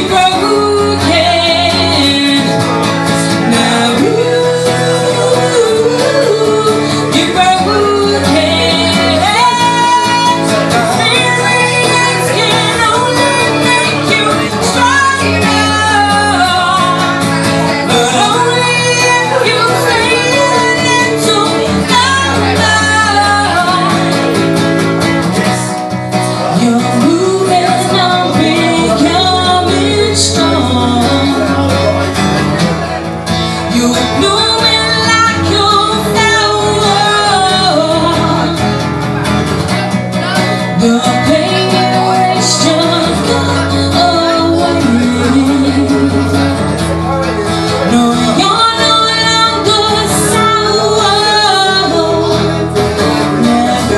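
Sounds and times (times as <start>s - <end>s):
man and woman singing: 0.0s - 53.9s
strummed acoustic guitar: 0.0s - 53.9s.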